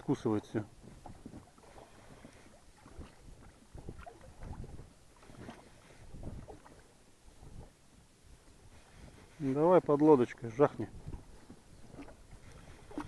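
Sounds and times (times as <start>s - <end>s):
waves lapping against boat hull: 0.0s - 13.0s.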